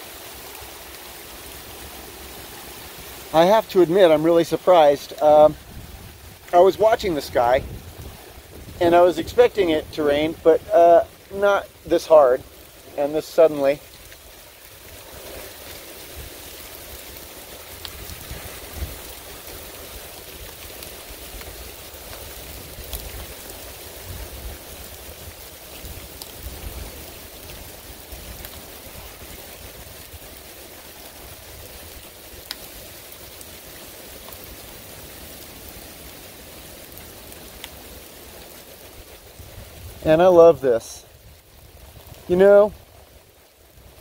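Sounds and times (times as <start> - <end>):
heavy rain pouring: 0.0 - 44.0
raindrops ticking close by: 0.0 - 44.0.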